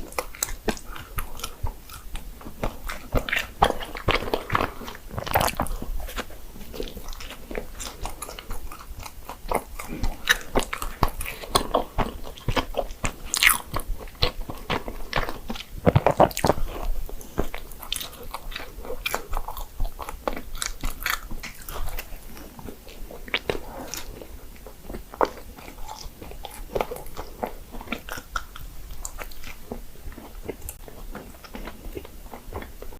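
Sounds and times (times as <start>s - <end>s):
chewing and biting doughnuts: 0.0s - 32.9s.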